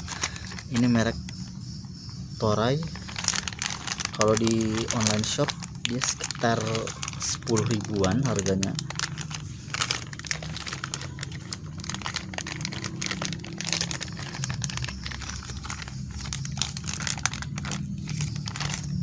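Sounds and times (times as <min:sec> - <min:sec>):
plastic bag crinkling: 0:00.0 - 0:01.5, 0:02.6 - 0:19.0.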